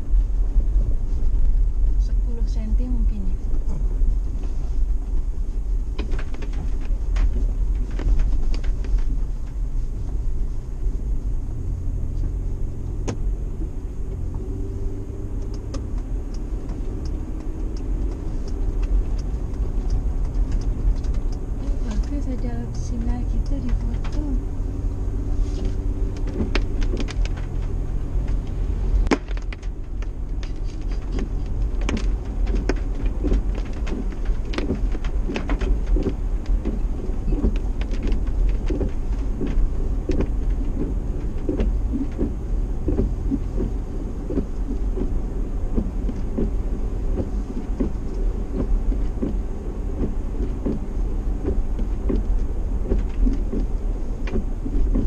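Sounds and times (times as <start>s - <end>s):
engine and road drone: 0.0s - 55.0s
water drops ticking on windscreen: 0.0s - 55.0s.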